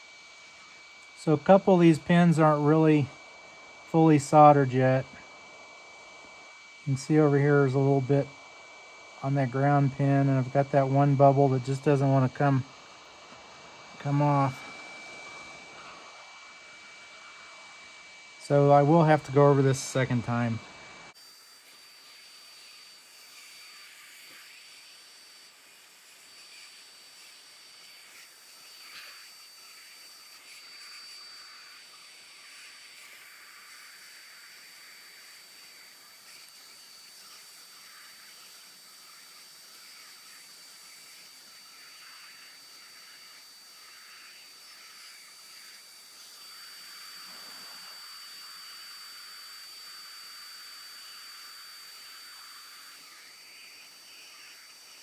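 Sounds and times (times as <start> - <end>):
hot air wand hiss: 0.0 - 55.0
thin high whine: 0.0 - 55.0.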